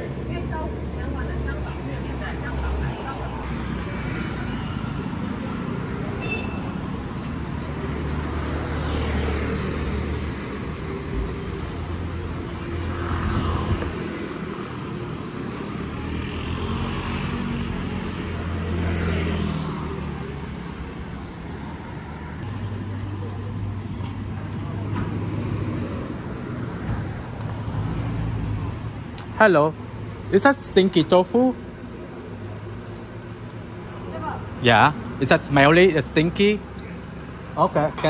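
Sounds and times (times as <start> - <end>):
vehicles passing: 0.0 - 38.0.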